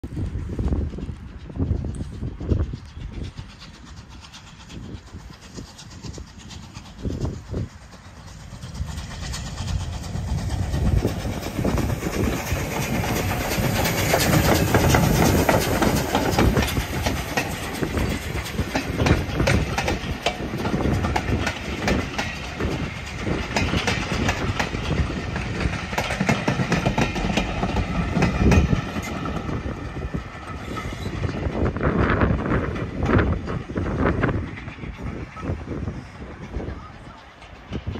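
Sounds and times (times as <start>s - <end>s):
steam train rumbling past: 0.0s - 37.9s
wheels clicking over rail joints: 0.1s - 35.8s.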